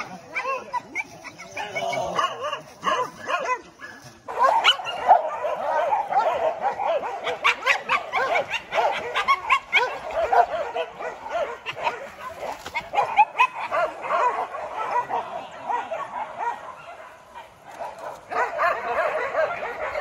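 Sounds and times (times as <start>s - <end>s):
dogs barking and yelping: 0.0s - 20.0s.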